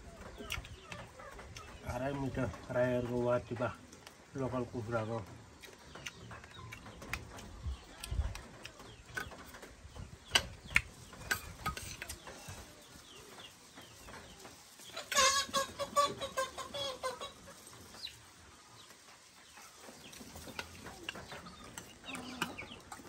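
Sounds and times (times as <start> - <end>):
hen clucking: 0.0 - 23.0.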